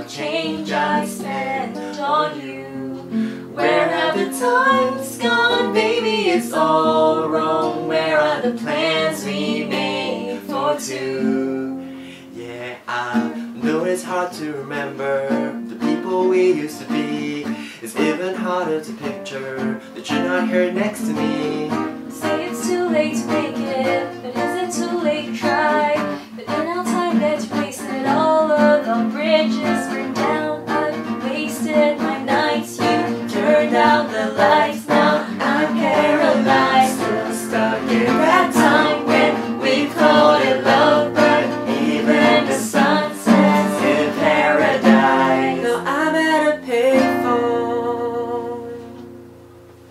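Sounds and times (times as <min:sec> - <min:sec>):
people singing together: 0:00.0 - 0:15.4, 0:19.6 - 0:48.8
strummed acoustic guitar: 0:00.0 - 0:49.9.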